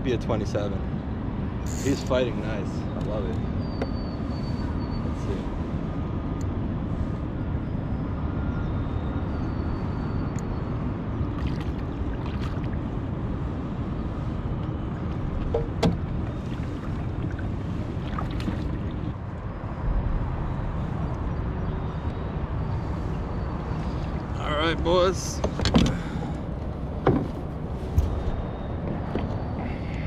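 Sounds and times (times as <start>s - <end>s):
low outdoor rumble: 2.2s - 30.0s.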